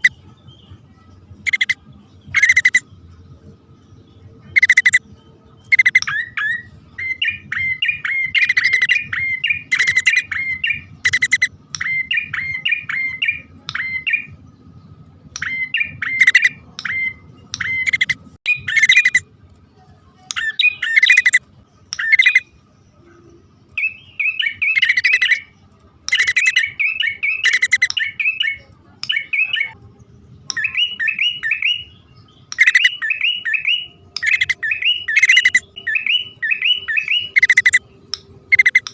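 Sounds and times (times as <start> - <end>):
bird chirping rapidly: 0.0 - 0.8, 1.4 - 3.0, 4.4 - 5.0, 5.6 - 14.4, 15.4 - 19.2, 20.3 - 22.6, 23.7 - 29.8, 30.5 - 38.9.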